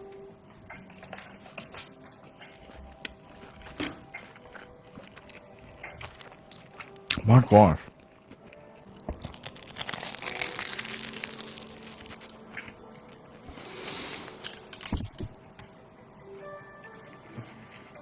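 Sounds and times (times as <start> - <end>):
crunchy food chewing: 0.7 - 15.7.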